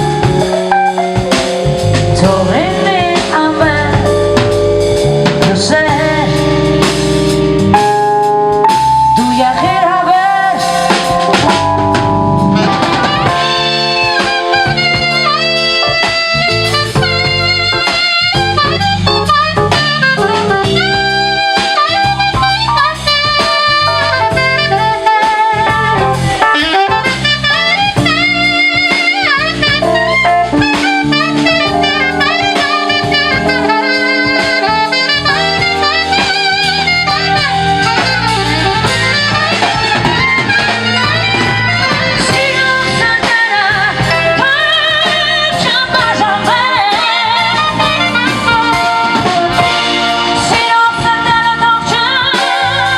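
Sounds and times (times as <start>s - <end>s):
live band playing pop: 0.0s - 52.9s
saxophone melody: 0.0s - 52.9s.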